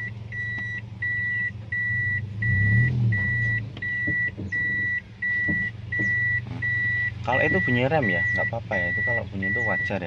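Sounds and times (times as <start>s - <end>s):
car engine running: 0.0s - 10.0s
car warning buzzer beeping: 0.0s - 10.0s.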